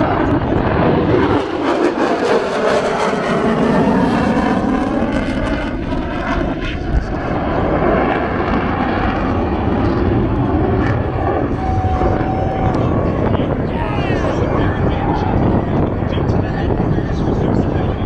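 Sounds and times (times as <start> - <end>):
fighter jet flying past: 0.0 - 18.0.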